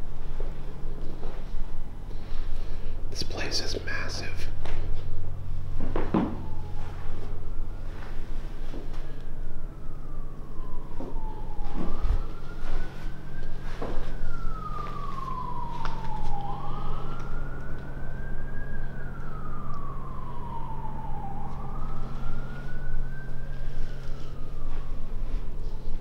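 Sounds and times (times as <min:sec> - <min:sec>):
emergency siren wailing: 0:00.0 - 0:26.0
steady low hum: 0:00.0 - 0:26.0.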